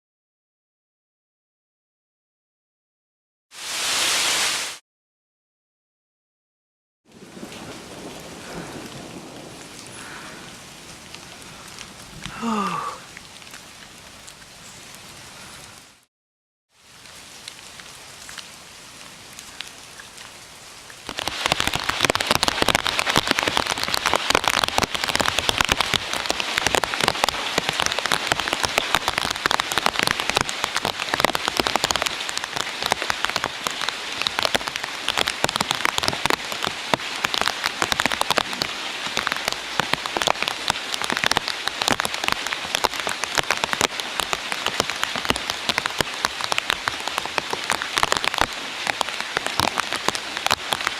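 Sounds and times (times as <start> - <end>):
heavy rain on hard surfaces: 3.5 - 4.8, 7.1 - 16.1, 16.7 - 50.9.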